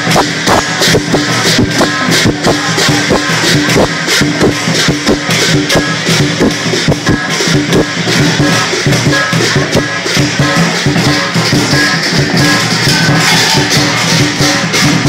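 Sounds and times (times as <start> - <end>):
clashing cymbals: 0.0 - 15.0
drum beats: 0.0 - 15.0.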